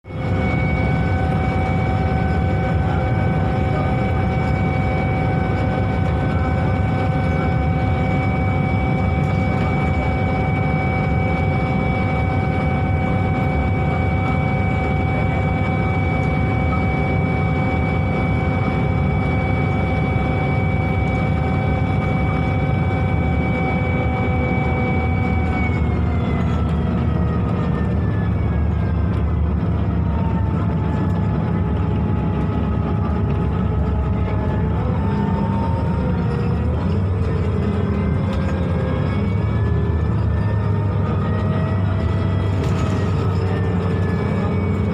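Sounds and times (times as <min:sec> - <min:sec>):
bus engine rumble: 0:00.1 - 0:44.9.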